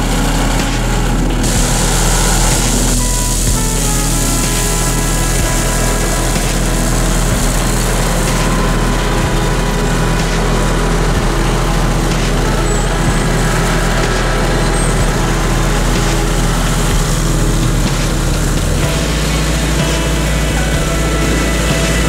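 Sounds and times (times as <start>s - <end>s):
mower deck cutting dry grass: 0.0s - 22.0s
mower engine running: 0.0s - 22.0s.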